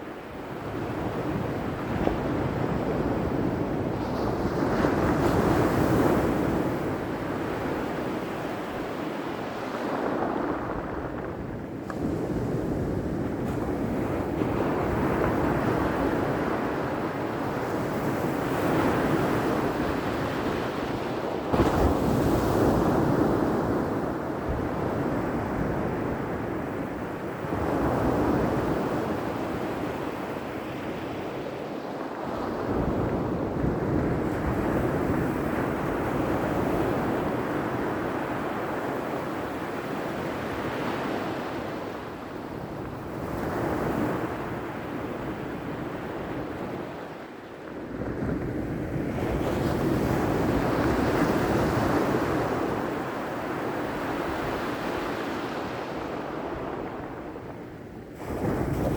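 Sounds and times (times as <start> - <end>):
wind on microphone: 0.0 - 58.9.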